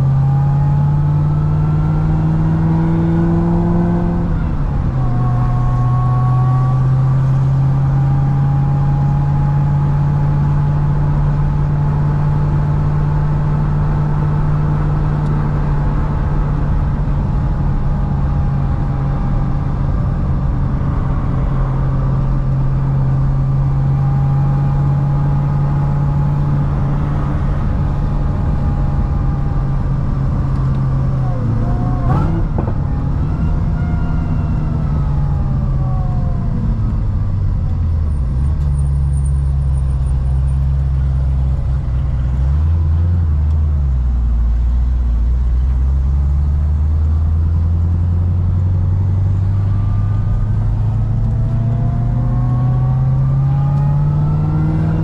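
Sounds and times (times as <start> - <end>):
rising whine: 0.0 - 41.7, 48.5 - 55.0
car engine running: 0.0 - 55.0.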